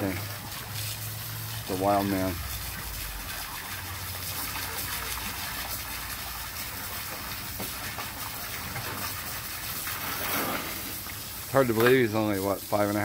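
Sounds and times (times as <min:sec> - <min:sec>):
hose water splashing into pool: 0:00.0 - 0:13.0
puppy splashing in water: 0:00.0 - 0:13.0.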